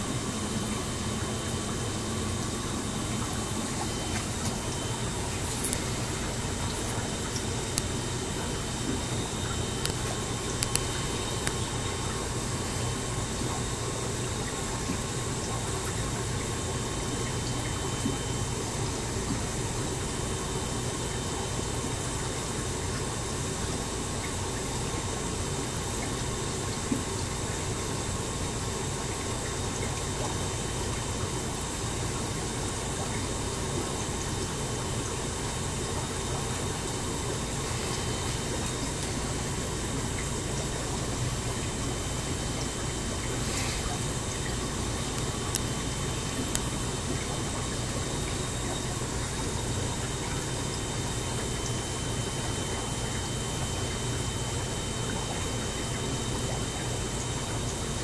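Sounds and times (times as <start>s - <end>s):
aquarium filter water running: 0.0s - 58.0s
low pump hum: 0.0s - 58.0s.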